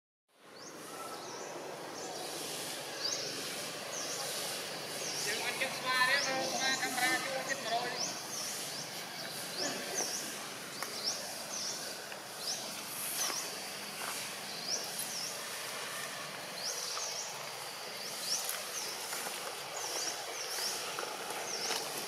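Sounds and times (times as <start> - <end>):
outdoor background noise: 0.3 - 22.0
bird chirping: 0.5 - 13.6, 14.3 - 22.0.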